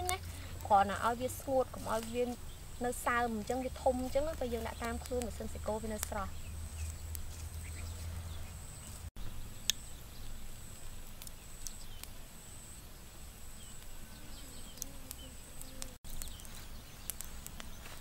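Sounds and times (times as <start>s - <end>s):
wood fire crackling: 0.0s - 8.0s, 8.6s - 14.0s, 14.6s - 18.0s.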